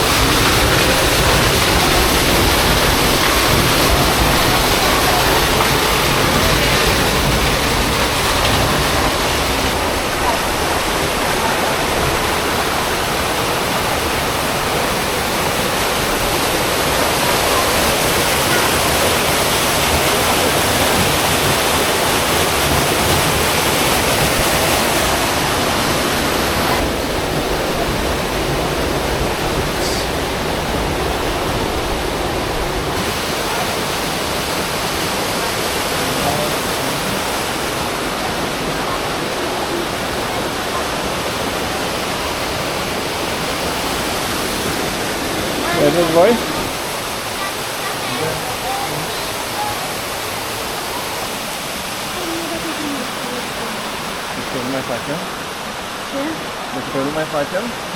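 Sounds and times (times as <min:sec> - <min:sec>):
rushing water roaring: 0:00.0 - 0:57.9.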